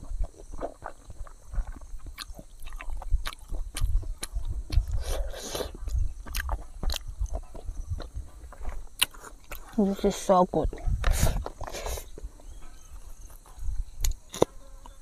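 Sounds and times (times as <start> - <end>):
wind rumble on microphone: 0.0 - 9.0, 10.5 - 14.1
person chewing food: 0.0 - 9.8, 11.1 - 15.0.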